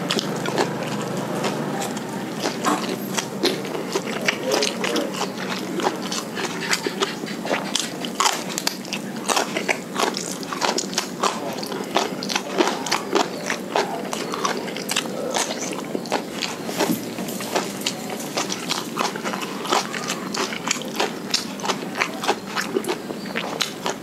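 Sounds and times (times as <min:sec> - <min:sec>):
wet chewing mouth clicks: 0:00.0 - 0:24.0.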